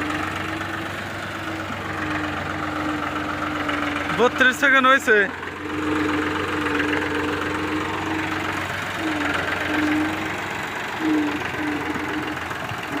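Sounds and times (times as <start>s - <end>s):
humming tone: 0.0s - 4.4s, 5.3s - 13.0s
tractor engine knocking: 0.0s - 13.0s.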